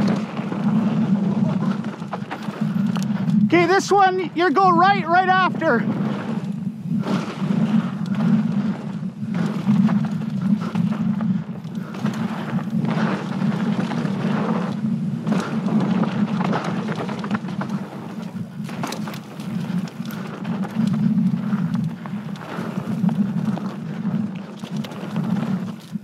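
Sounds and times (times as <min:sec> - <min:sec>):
bike clicks and rattles: 0:00.0 - 0:26.0
tyre noise on dirt: 0:00.0 - 0:26.0
wind buffeting microphone: 0:00.0 - 0:26.0.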